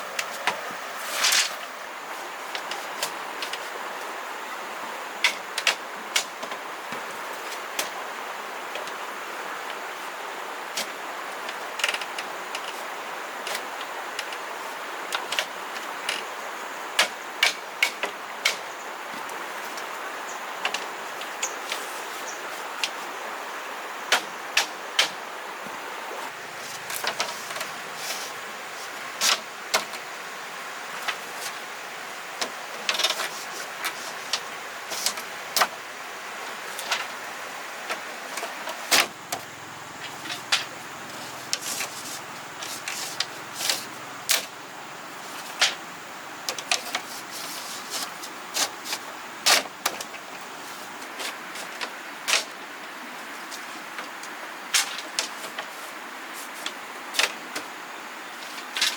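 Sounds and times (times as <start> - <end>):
steady hiss: 0.0 - 58.9.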